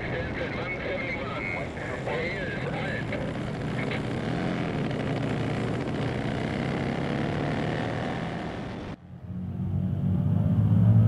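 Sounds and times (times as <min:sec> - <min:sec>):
motorcycle engine at full throttle: 0:01.2 - 0:11.0.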